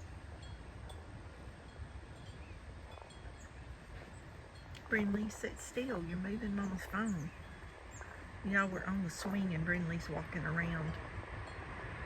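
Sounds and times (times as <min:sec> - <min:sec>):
wind chimes tinkling: 0:00.0 - 0:11.9
low rumble of wind: 0:00.0 - 0:12.0.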